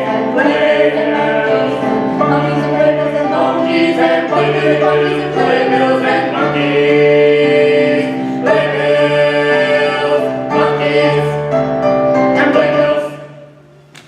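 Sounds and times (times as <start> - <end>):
choir singing held chords: 0.0 - 13.6.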